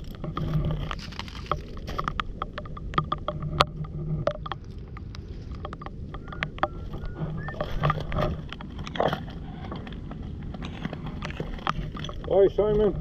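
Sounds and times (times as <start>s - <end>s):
stones and shells crunching underfoot: 0.0s - 13.0s.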